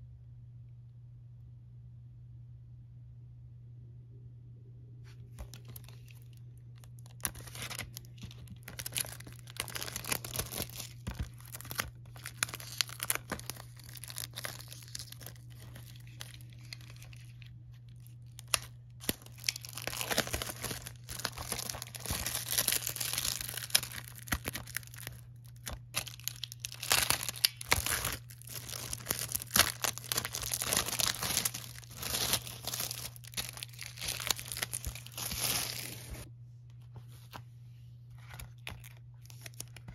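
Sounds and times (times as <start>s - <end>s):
steady low hum: 0.0s - 39.9s
plastic wrap crinkling: 5.3s - 36.3s, 38.2s - 39.9s.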